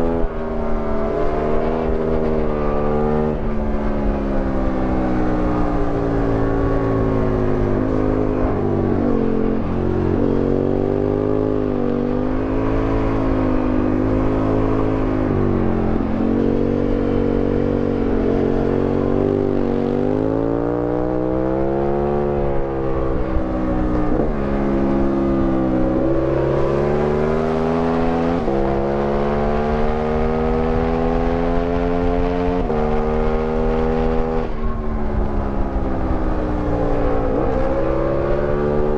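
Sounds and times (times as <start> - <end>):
motorcycle engine accelerating: 0.0 - 38.9
wind rushing over microphone: 0.0 - 38.9.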